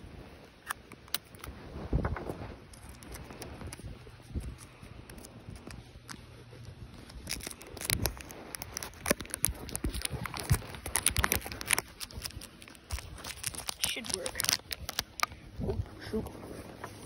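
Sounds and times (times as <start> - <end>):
duct tape tearing and crackling: 0.6 - 1.6, 2.4 - 15.4.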